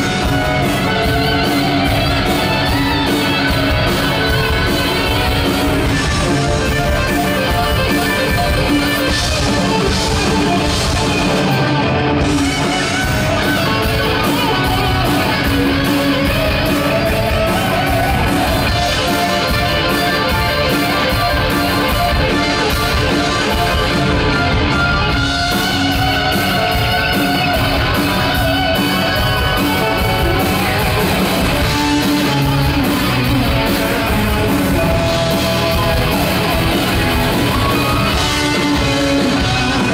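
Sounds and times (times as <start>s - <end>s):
drums: 0.0s - 39.9s
electric guitars: 0.0s - 39.9s.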